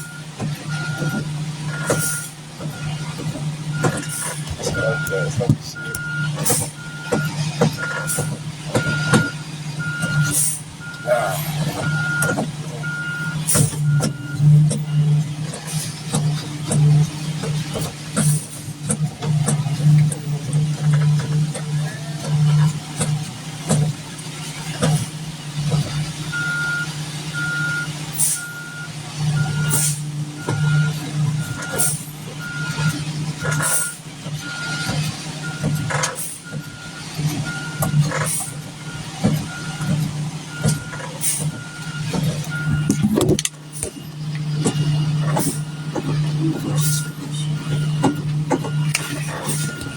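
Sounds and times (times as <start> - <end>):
diesel engine running: 0.0 - 49.9
truck reversing alarm beeps: 0.0 - 49.9.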